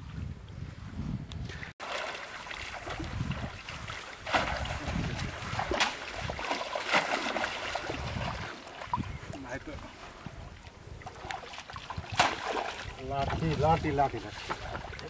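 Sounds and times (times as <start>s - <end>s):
stream water splashing: 1.8s - 15.0s.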